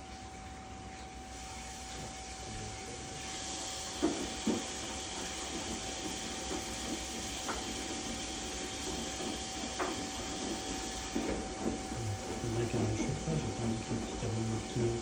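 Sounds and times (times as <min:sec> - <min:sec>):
washing machine hiss: 0:01.1 - 0:15.0.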